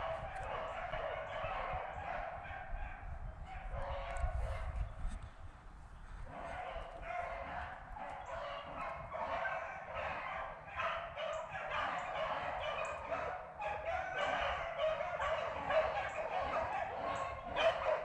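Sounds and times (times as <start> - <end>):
hounds baying: 0.0 - 4.9, 6.3 - 18.0.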